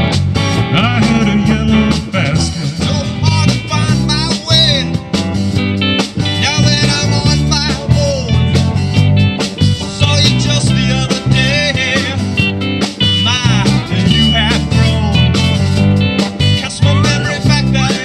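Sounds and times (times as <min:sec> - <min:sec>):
lead guitar bending notes: 0:00.0 - 0:18.0
rock band playing: 0:00.0 - 0:18.0.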